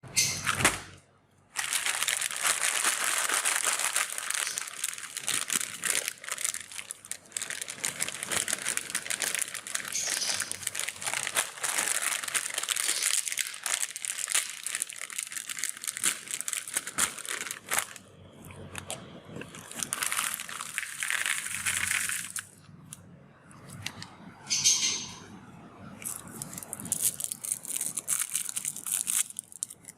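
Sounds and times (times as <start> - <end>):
candy wrappers crinkling: 1.5 - 22.9, 26.0 - 29.9.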